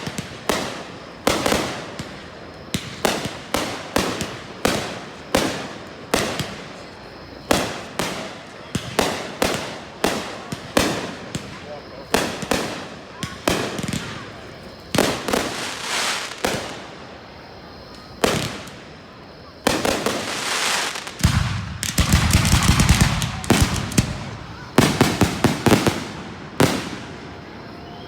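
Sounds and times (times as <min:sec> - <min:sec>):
deep rumble of fireworks: 0:00.0 - 0:28.0
fireworks bangs: 0:00.0 - 0:28.0
fireworks crackling: 0:00.0 - 0:28.0.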